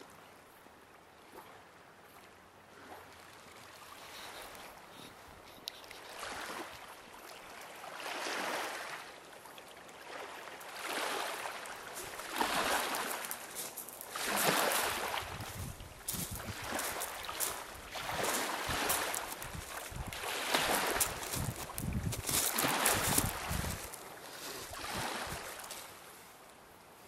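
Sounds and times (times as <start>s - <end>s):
small waves on rocky shore: 1.2s - 26.6s.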